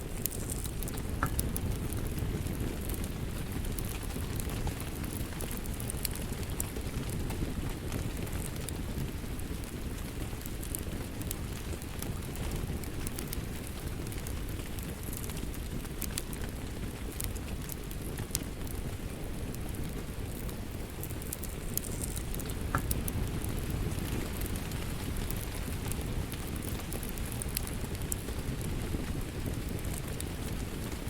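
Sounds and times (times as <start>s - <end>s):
steady rain: 0.0s - 31.0s
wood fire crackling and popping: 0.0s - 31.0s.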